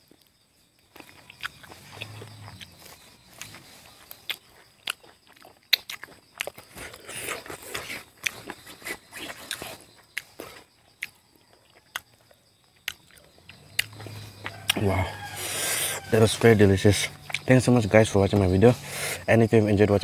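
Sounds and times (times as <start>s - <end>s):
man chewing with mouth open: 0.0s - 16.1s, 17.0s - 17.5s.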